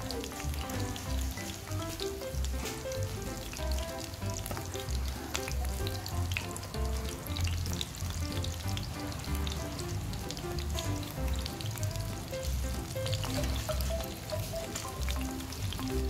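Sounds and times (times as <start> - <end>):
battered fish deep-frying in oil: 0.0 - 16.0
music with pulsing bass line: 0.0 - 16.0.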